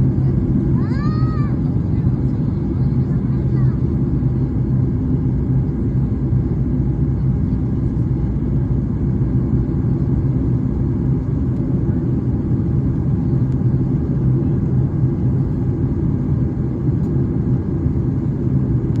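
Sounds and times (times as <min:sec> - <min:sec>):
jet engines rumbling during takeoff: 0:00.0 - 0:19.0.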